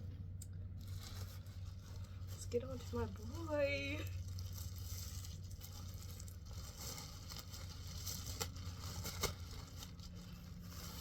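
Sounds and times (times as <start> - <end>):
steady low hum: 0.0 - 11.0
packaging rustling and crinkling: 0.7 - 11.0.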